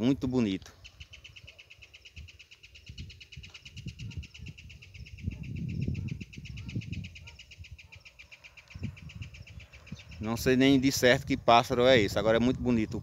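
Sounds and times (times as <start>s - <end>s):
bird singing a fast trill: 0.0s - 13.0s.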